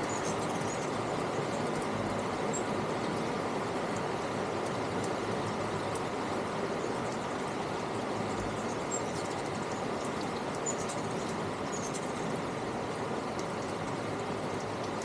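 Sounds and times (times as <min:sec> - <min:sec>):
hummingbird chirps: 0:00.0 - 0:06.0, 0:06.7 - 0:15.0
outdoor background noise: 0:00.0 - 0:15.0.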